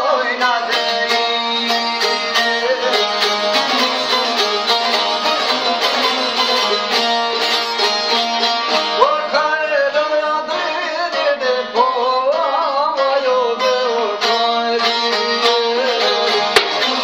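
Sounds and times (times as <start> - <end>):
man singing: 0.0 - 7.5, 8.8 - 17.0
lutes plucked and strummed: 0.0 - 17.0.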